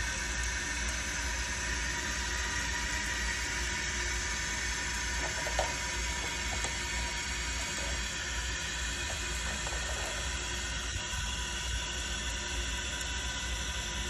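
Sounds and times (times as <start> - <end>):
toilet tank refilling hiss: 0.0 - 14.0.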